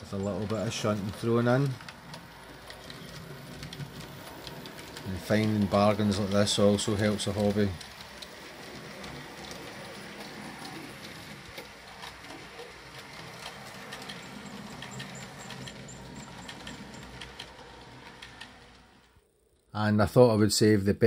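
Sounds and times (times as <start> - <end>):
wheels clicking over rail joints: 0.0 - 19.2
model train motor hum: 0.0 - 19.3.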